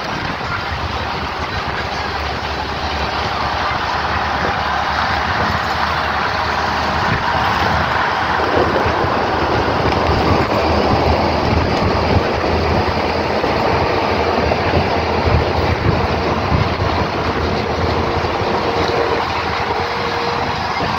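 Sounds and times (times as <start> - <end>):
bus engine drone: 0.0 - 20.9
road noise: 0.0 - 20.9.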